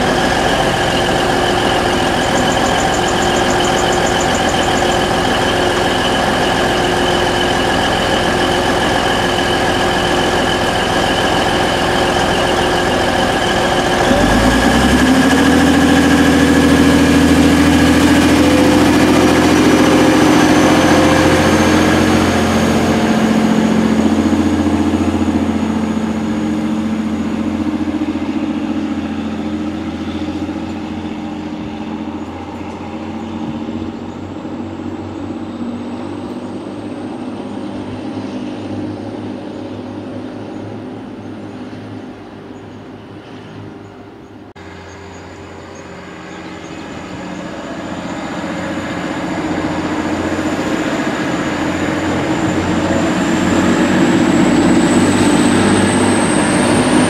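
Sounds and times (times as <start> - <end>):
diesel train engines running hard: 0.0 - 57.0.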